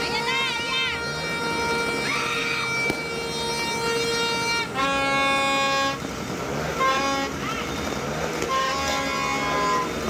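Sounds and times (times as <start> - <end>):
horns blasting: 0.0 - 10.0.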